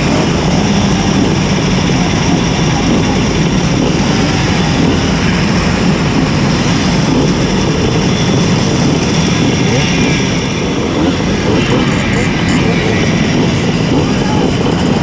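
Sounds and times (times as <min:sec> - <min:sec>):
moped two-stroke engine running: 0:00.0 - 0:15.0.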